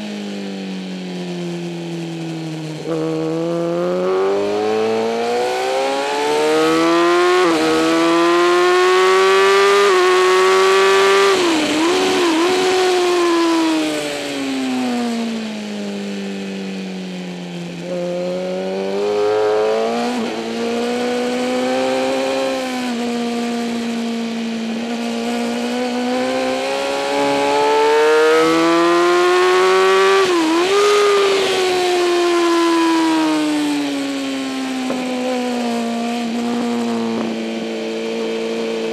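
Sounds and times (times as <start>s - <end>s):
motorcycle engine revving: 1.2s - 38.9s.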